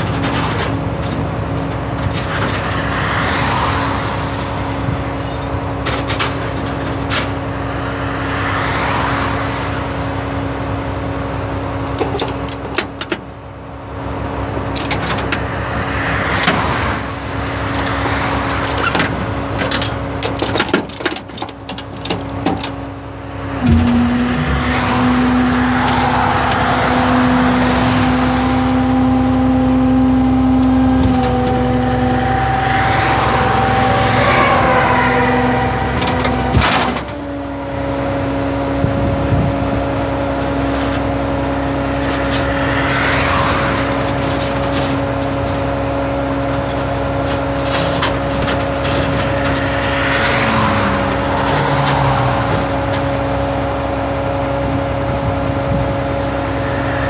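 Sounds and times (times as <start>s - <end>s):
highway traffic swooshing past: 1.4s - 11.8s, 13.4s - 20.2s, 22.7s - 47.2s, 48.1s - 57.0s.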